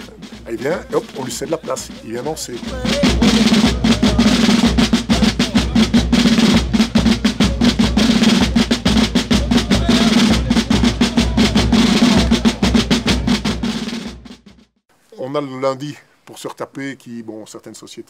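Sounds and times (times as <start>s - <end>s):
bass drum: 0.0s - 14.7s
drum corps rolling beat: 0.0s - 14.8s.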